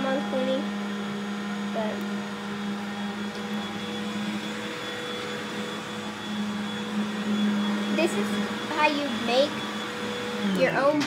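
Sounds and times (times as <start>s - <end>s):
vacuum cleaner motor hum: 0.0s - 11.0s.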